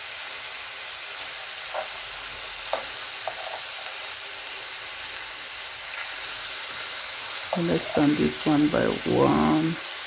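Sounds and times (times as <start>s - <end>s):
bacon sizzling in frying pan: 0.0s - 10.0s.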